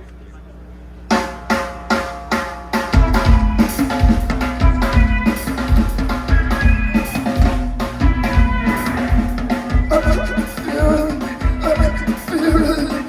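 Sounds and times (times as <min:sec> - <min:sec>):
drum kit kick and snare hits: 0:01.1 - 0:13.0
live rock band playing: 0:01.1 - 0:13.0.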